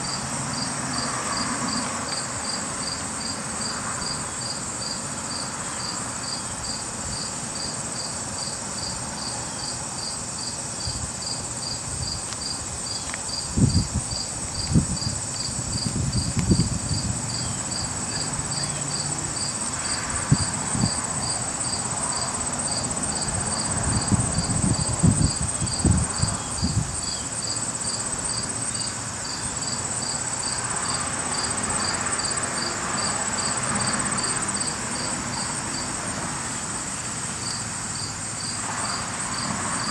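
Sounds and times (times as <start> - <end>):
insects chirping and trilling: 0.0 - 39.9.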